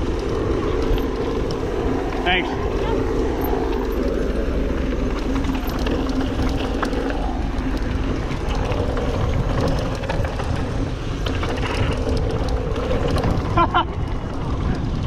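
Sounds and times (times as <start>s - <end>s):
bike clicks and rattles: 0.0s - 15.0s
wind and tyre noise: 0.0s - 15.0s.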